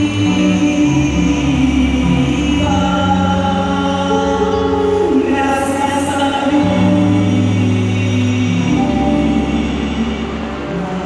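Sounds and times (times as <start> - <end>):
choir singing: 0.0 - 11.0
string orchestra sustained chords: 0.0 - 11.0.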